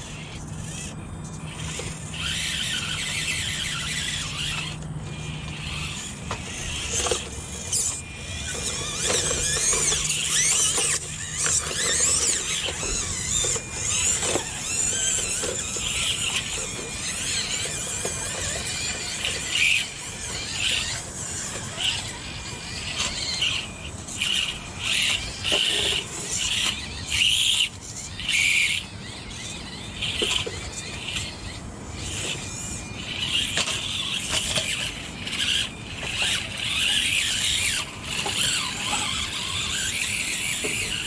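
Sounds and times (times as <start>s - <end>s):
small electric motors whining: 0.0s - 41.0s.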